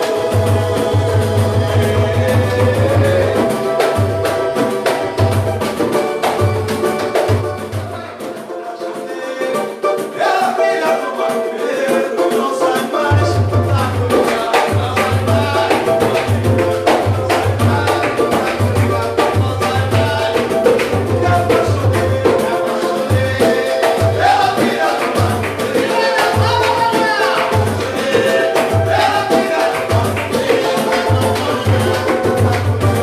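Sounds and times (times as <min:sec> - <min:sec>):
hand percussion with shakers: 0:00.0 - 0:33.0
voices singing: 0:00.0 - 0:33.0.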